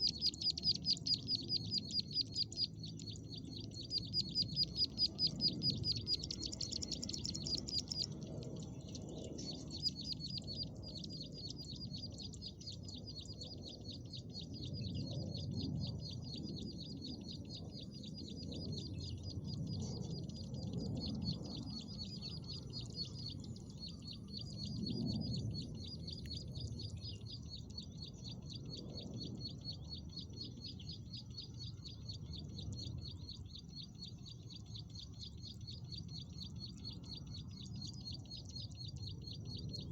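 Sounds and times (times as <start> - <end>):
bird high chirps: 0.0 - 39.9
low background rumble: 0.0 - 39.9.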